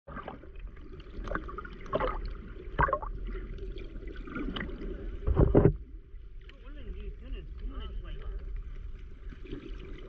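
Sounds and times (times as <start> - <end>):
water splashes: 0.1 - 10.0.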